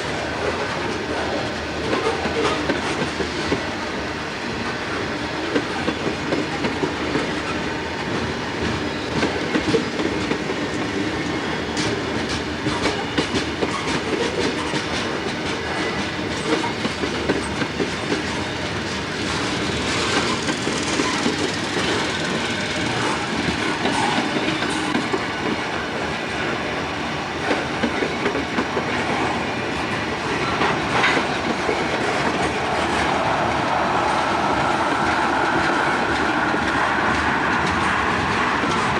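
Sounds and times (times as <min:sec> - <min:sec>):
train wheel squeals: 0:00.0 - 0:38.9
train wheels clicking over rail joints: 0:00.0 - 0:38.9.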